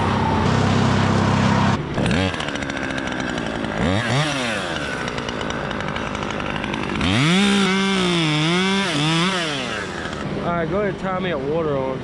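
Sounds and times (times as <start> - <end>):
chainsaw idling and revving: 0.4 - 10.3.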